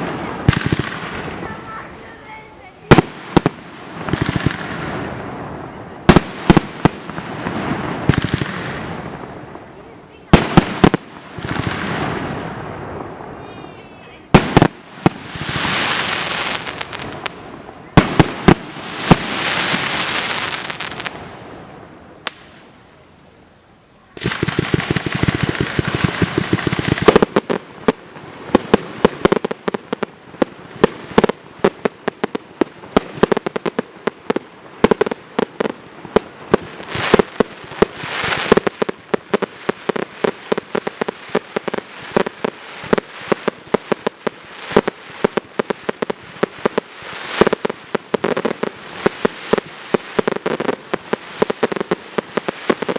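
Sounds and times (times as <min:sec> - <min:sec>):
fireworks bangs: 0:00.0 - 0:52.9
fireworks hissing crackle: 0:00.0 - 0:52.9.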